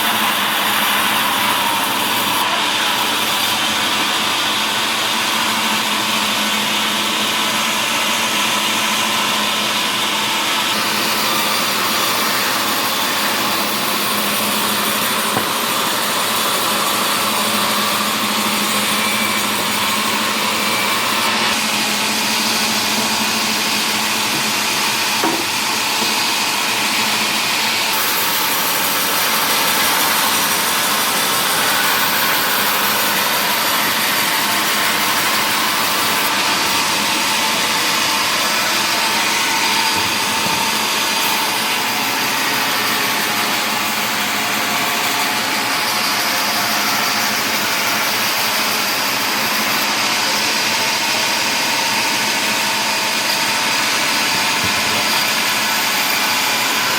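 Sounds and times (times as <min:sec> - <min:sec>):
sawmill saw and motor: 0:00.0 - 0:56.9.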